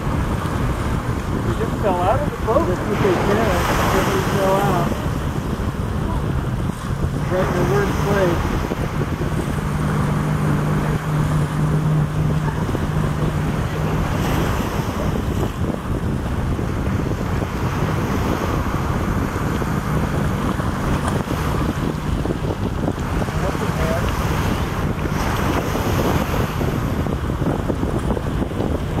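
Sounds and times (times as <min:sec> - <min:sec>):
boat engine running: 0:00.0 - 0:29.0
water noise: 0:00.0 - 0:29.0
wind buffeting microphone: 0:00.0 - 0:29.0.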